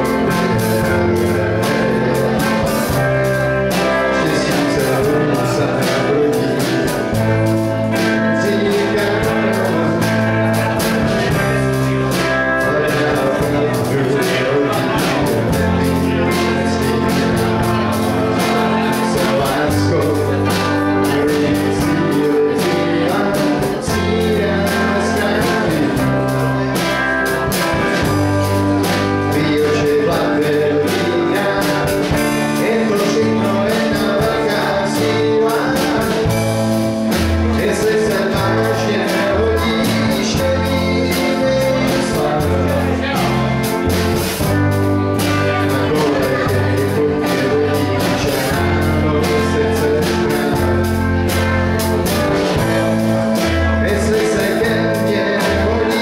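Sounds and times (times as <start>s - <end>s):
man singing: 0.0s - 56.0s
rock band playing: 0.0s - 56.0s.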